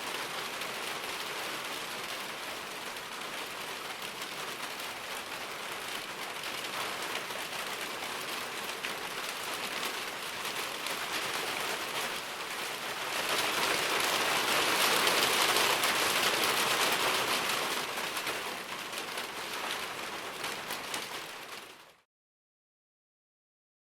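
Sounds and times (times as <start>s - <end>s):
steady rain on a surface: 0.0s - 22.1s.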